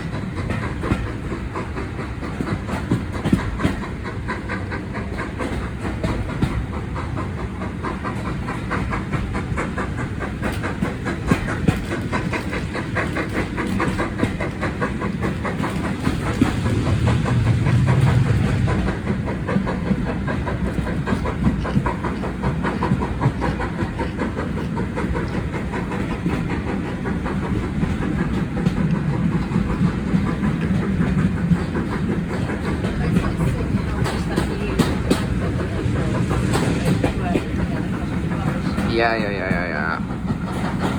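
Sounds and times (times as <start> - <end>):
railway carriage rumble: 0.0 - 40.9
train wheels clickety-clack: 0.0 - 40.9.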